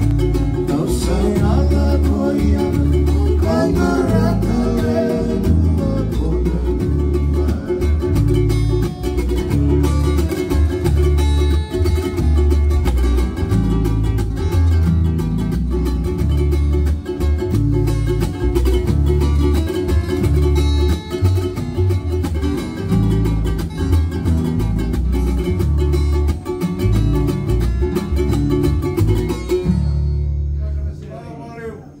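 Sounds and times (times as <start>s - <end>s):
acoustic guitar strumming: 0.0s - 31.6s.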